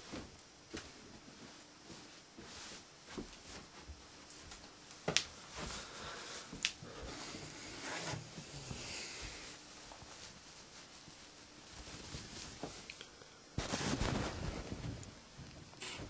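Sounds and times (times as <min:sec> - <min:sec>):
rustling and shuffling: 0:00.0 - 0:16.0.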